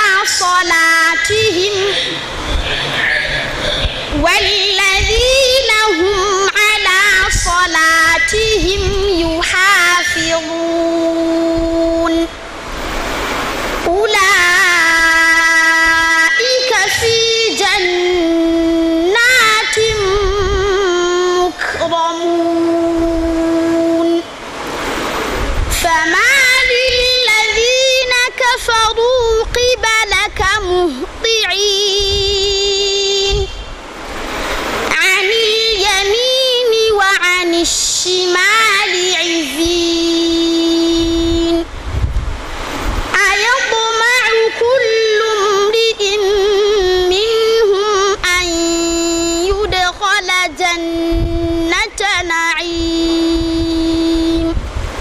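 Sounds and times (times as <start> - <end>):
young man chanting melodically: 0.0 - 12.4, 13.8 - 24.3, 25.6 - 33.7, 34.9 - 41.7, 43.1 - 54.6.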